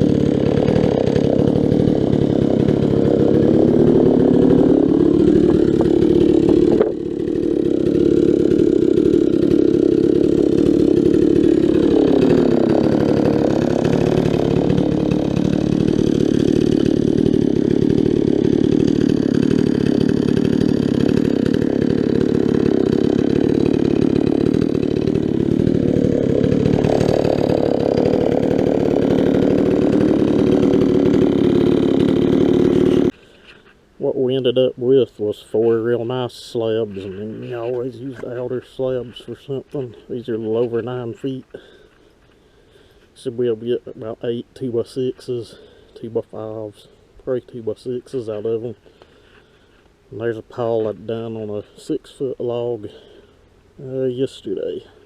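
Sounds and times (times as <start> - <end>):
chainsaw cutting a log: 0.0 - 33.7, 34.3 - 49.5, 50.2 - 55.0.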